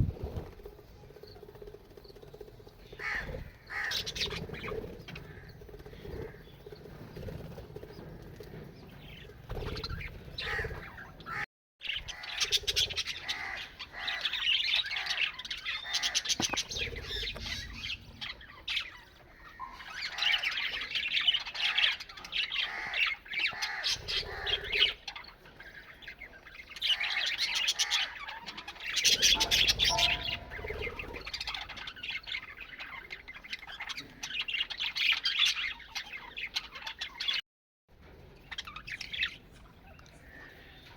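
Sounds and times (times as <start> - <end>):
parrots squawking and chattering: 2.9 - 6.8, 7.4 - 37.4.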